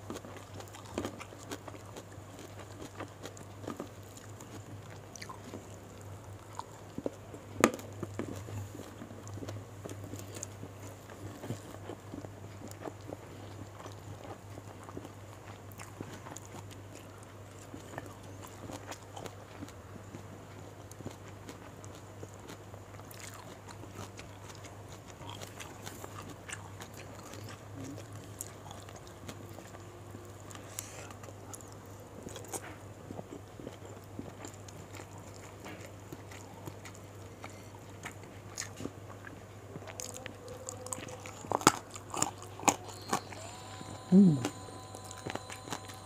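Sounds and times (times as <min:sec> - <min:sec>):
chewing and crunching: 0:00.0 - 0:46.0
steady low hum: 0:00.0 - 0:46.0.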